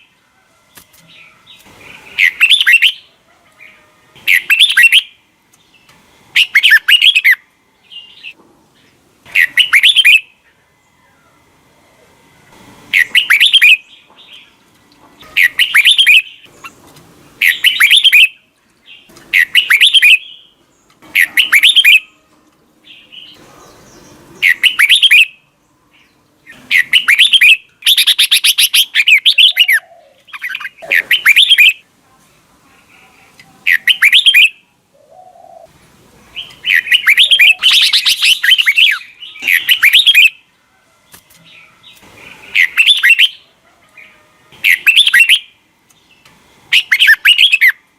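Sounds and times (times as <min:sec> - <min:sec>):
bird chirping phrases: 0:00.0 - 0:11.5, 0:12.9 - 0:14.6, 0:15.2 - 0:31.9, 0:32.6 - 0:35.7, 0:36.3 - 0:40.5, 0:41.1 - 0:47.9.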